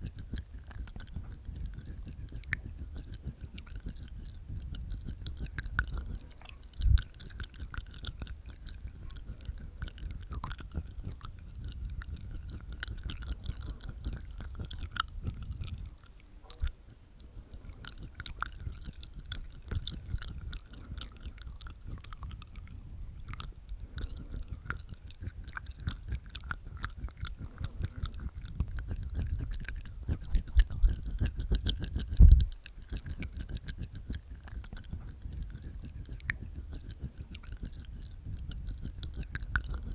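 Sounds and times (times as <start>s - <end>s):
wet tongue clicks: 0.0s - 39.9s.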